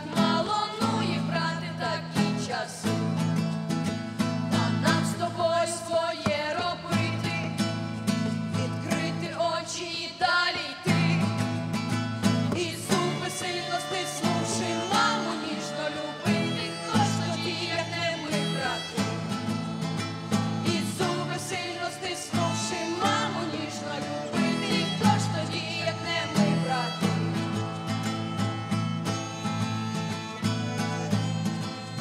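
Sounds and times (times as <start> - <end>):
instrumental song with guitar: 0.0 - 32.0.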